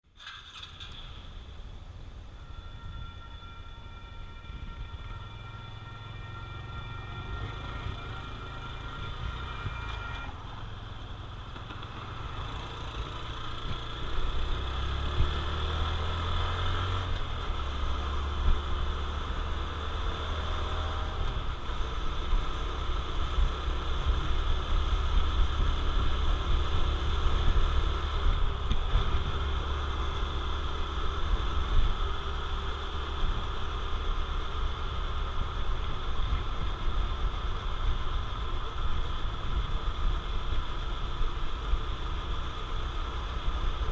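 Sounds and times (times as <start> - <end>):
motorcycle engine running: 4.0 - 43.9.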